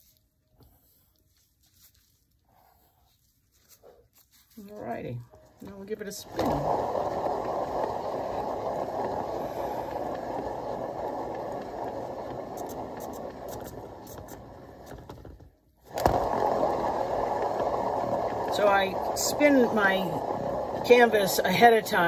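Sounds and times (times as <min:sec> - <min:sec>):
canvas spinner whirring: 0:03.6 - 0:22.0.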